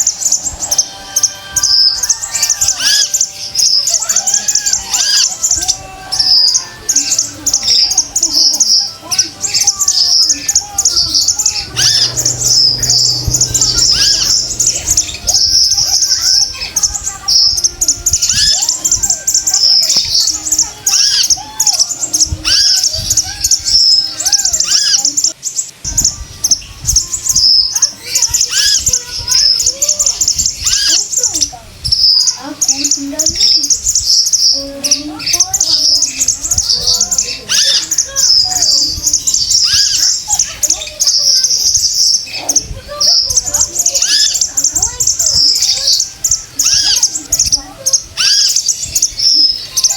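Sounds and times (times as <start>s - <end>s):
bird calling with rapid chirps: 0.0s - 49.9s.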